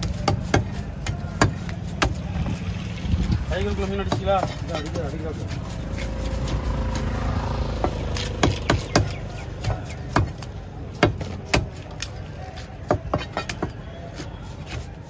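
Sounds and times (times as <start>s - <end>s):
knife chopping fish on wood: 0.0s - 2.8s, 3.6s - 15.0s.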